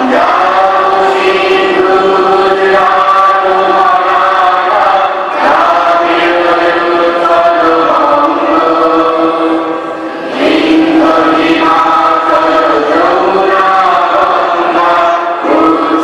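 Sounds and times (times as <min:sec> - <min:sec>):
group chanting in held notes: 0:00.0 - 0:16.0.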